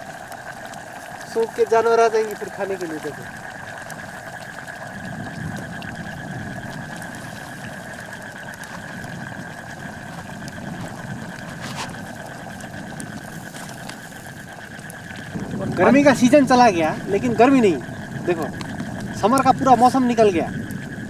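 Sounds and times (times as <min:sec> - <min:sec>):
fire crackles and pops: 0:00.0 - 0:21.0
wood fire low rumble: 0:00.0 - 0:21.0.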